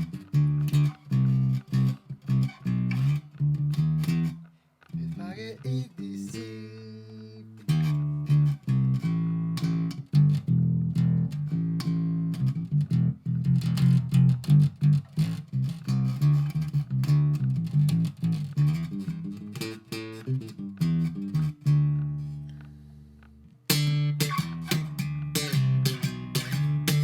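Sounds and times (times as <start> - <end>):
guitar background music: 0.0 - 27.0.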